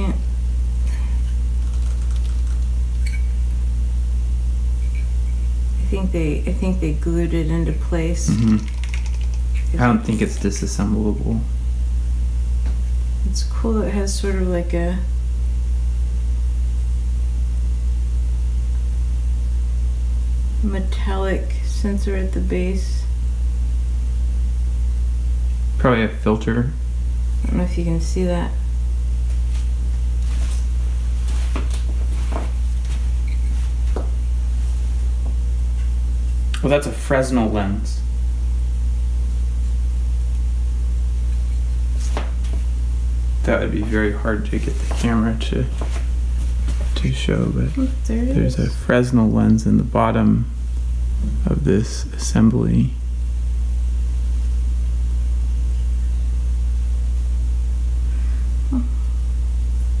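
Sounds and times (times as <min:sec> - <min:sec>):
low electrical hum: 0:00.0 - 1:00.0.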